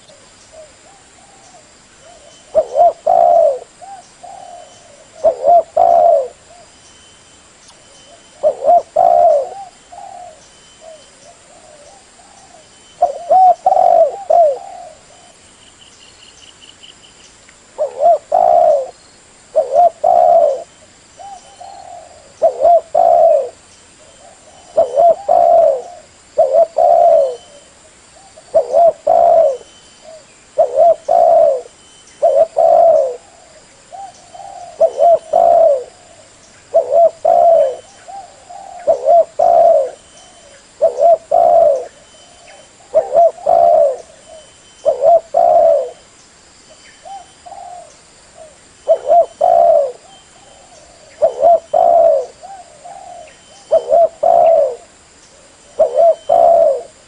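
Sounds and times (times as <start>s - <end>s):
dove cooing: 0.0s - 6.7s, 8.1s - 15.4s, 17.8s - 46.0s, 47.0s - 57.0s.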